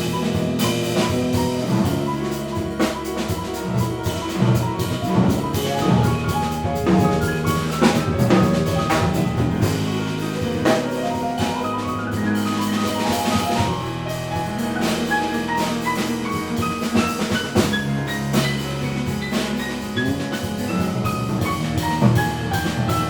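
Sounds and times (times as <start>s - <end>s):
double bass: 0.0s - 23.0s
drum kit with cymbals: 0.0s - 23.0s
piano notes: 0.0s - 23.0s.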